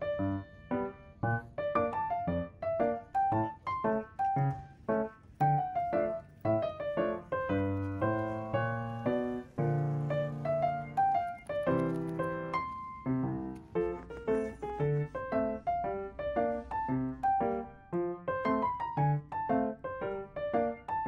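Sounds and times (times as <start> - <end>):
light piano melody: 0.0 - 21.0.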